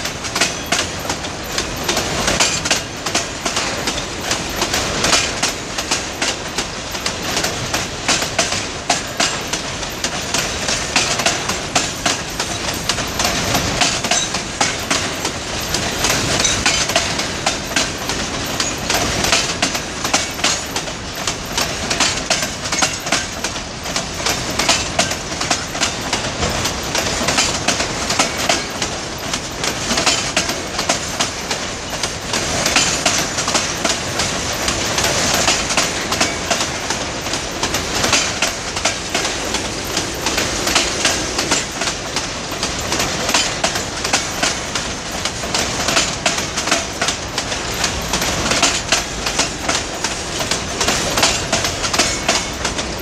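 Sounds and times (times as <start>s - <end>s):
train wheels clacking on rails: 0.0s - 53.0s.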